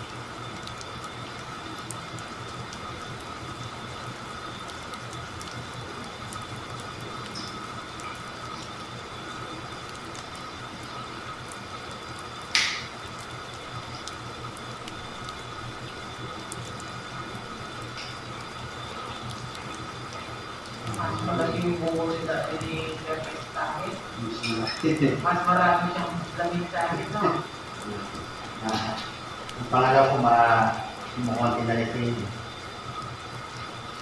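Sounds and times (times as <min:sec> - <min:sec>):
background hum and hiss: 0:00.0 - 0:34.0.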